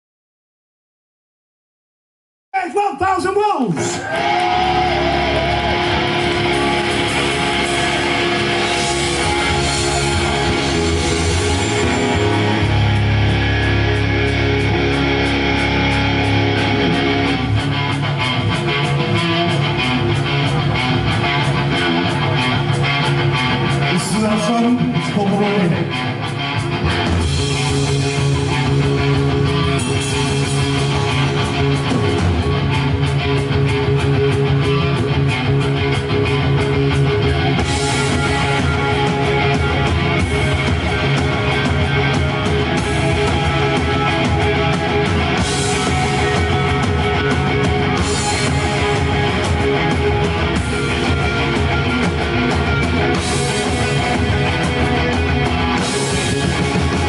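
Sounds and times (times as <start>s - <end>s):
drums: 2.5s - 57.0s
electric guitars: 3.7s - 57.0s.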